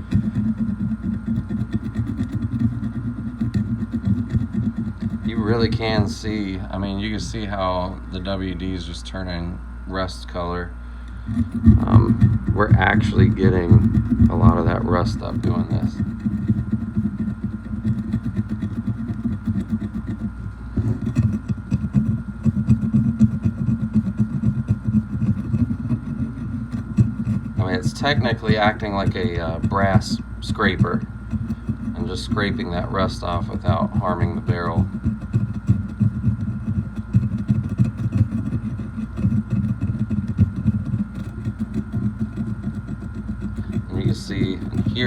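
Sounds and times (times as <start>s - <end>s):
brass rod scraping steel barrel: 0.0s - 7.8s, 11.2s - 45.0s.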